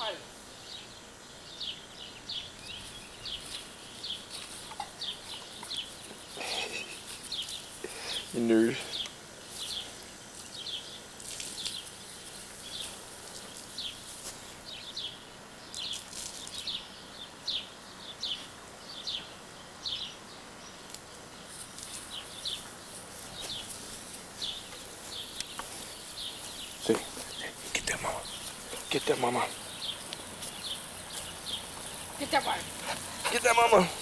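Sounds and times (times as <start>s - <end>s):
small bird chirping: 0.5s - 23.8s, 24.4s - 34.0s.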